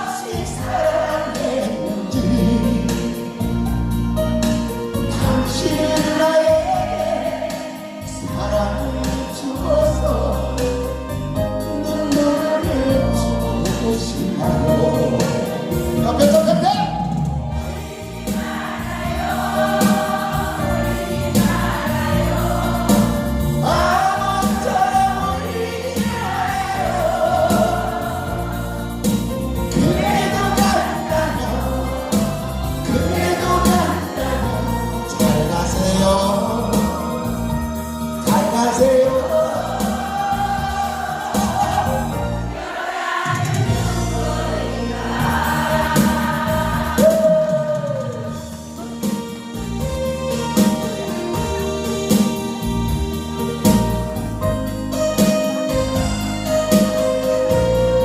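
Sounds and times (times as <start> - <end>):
group singing in unison: 0.0 - 3.8, 4.9 - 49.4
backing track with steady beat: 0.0 - 58.0.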